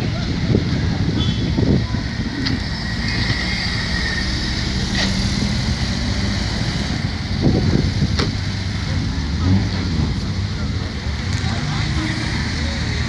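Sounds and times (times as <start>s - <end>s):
sports car driving slowly past: 0.1s - 13.0s.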